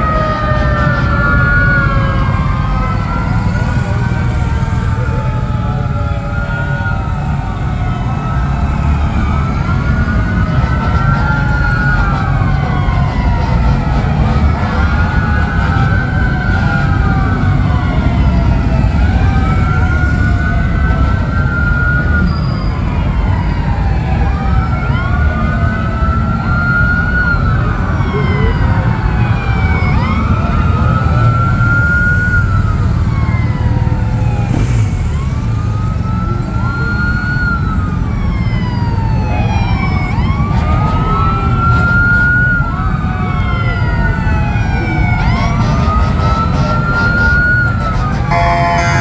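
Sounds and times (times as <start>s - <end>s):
police sirens wailing: 0.0s - 49.0s.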